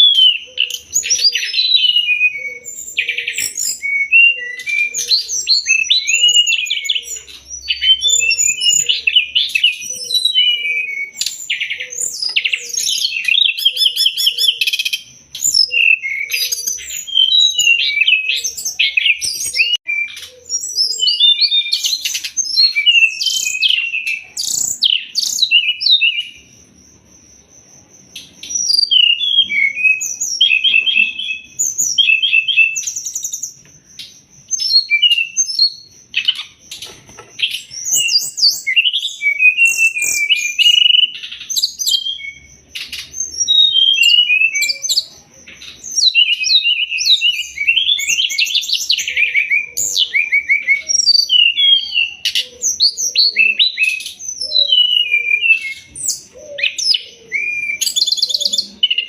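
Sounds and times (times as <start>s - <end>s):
bird song with chirps and trills: 0.0s - 59.0s.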